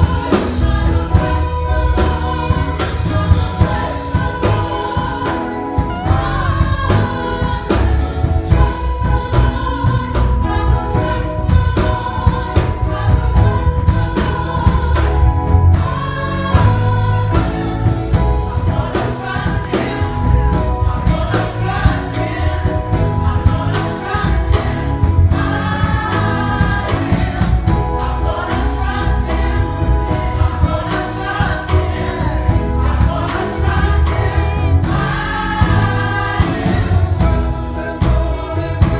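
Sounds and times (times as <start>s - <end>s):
gospel choir singing: 0.0s - 38.9s
instrumental accompaniment with beat: 0.0s - 38.9s.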